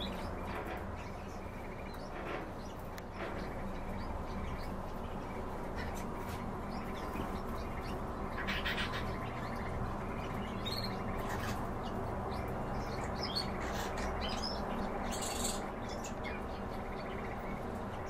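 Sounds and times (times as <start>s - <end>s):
low background hum: 0.0s - 18.0s
sparrows chirping: 0.0s - 18.0s.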